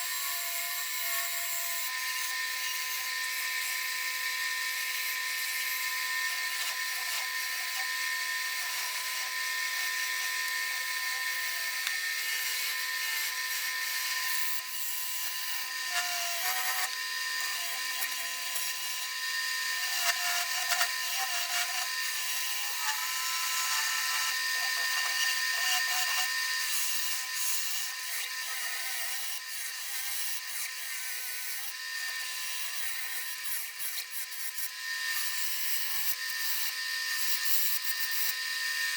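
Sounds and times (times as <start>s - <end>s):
lathe motor whine: 0.0s - 38.9s
gouge cutting wood hiss: 4.9s - 38.5s.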